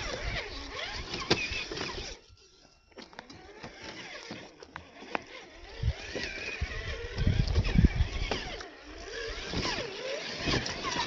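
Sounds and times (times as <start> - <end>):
sharp clicks over rough ground: 0.0 - 11.0
toy car electric motor whining: 0.0 - 11.0.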